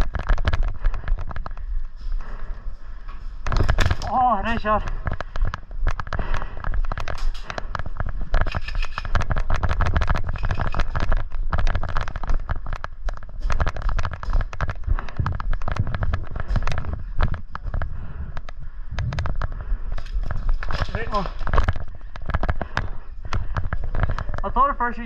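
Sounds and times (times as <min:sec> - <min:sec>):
airsoft guns popping: 0:03.4 - 0:24.6.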